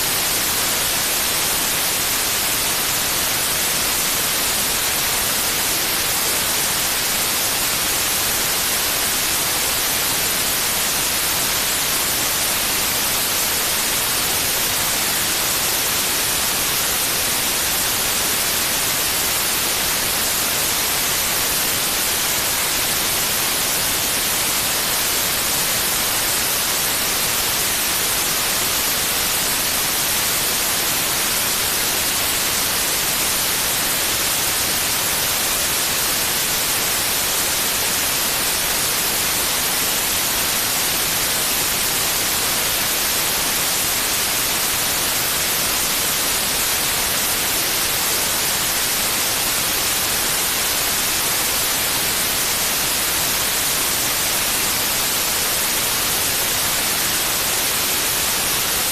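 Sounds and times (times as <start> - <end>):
steady white noise hiss: 0.0 - 58.9.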